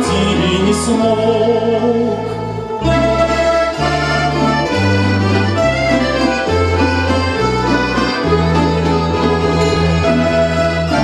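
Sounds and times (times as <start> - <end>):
instrumental chords over bass line: 0.0 - 11.0.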